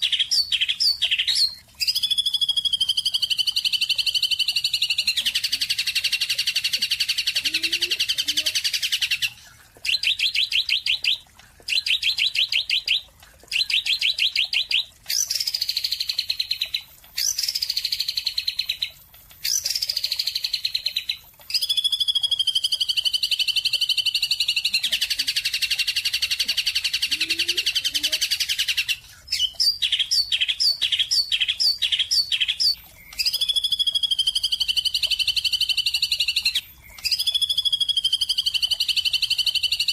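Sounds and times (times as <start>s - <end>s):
bird song trills and whistles: 0.0s - 39.9s.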